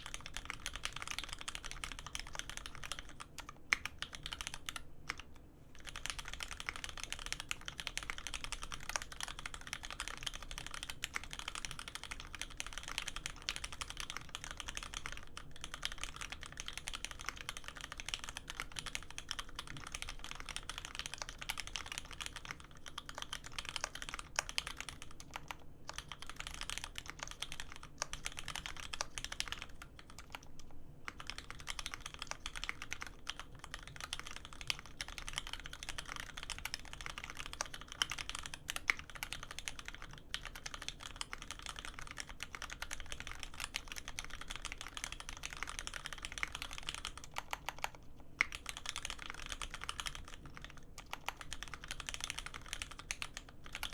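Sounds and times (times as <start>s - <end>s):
mechanical keyboard typing: 0.0s - 53.9s.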